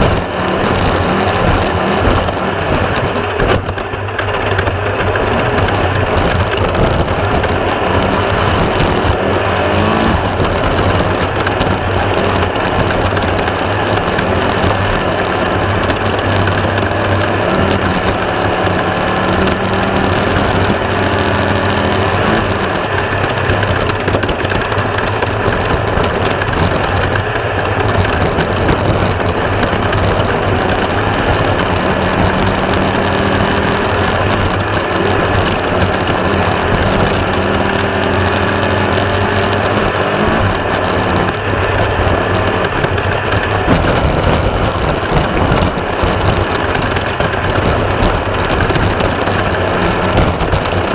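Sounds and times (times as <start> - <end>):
race buggy engine running hard: 0.0 - 50.9
rattling clatter from car: 0.0 - 50.9.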